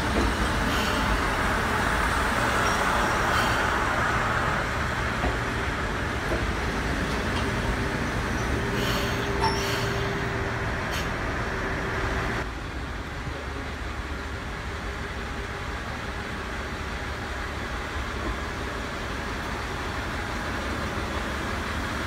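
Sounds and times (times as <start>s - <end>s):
diesel train engine rumble: 0.0s - 22.0s.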